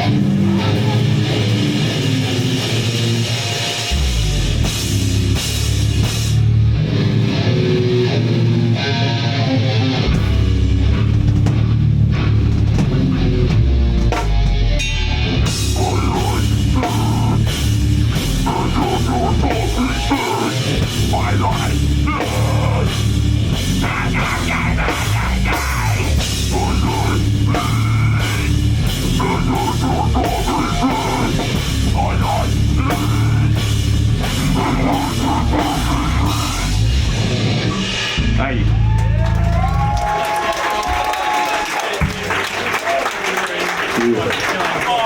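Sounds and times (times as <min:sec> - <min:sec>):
heavy metal band playing: 0:00.0 - 0:41.4.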